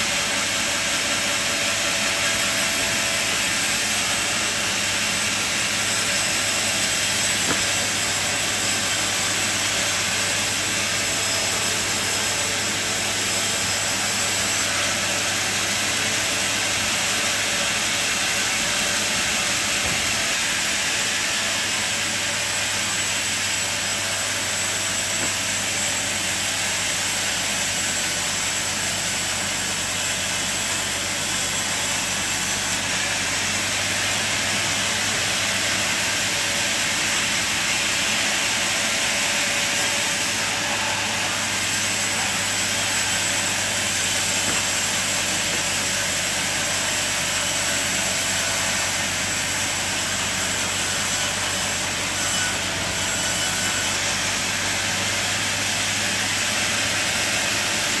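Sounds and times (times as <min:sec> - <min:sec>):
sawmill machine running: 0:00.0 - 0:58.0.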